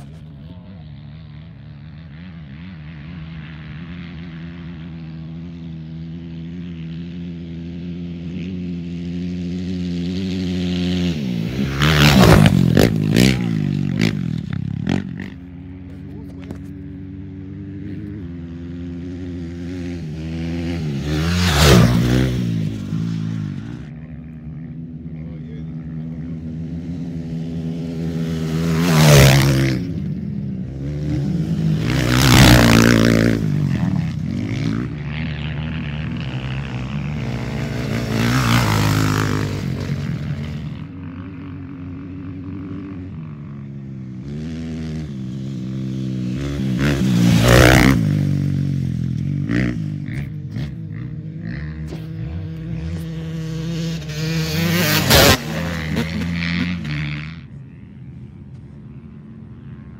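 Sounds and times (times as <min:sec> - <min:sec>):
dirt bikes passing at speed: 0:00.0 - 0:59.9
steady engine drone: 0:00.0 - 0:59.9.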